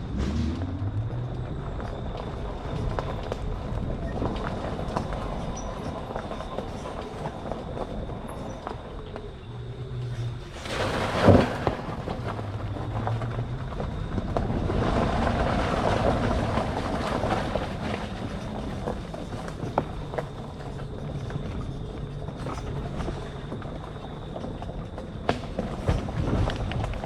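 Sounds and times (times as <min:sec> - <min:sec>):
tyres rolling over dirt: 0:00.0 - 0:27.0.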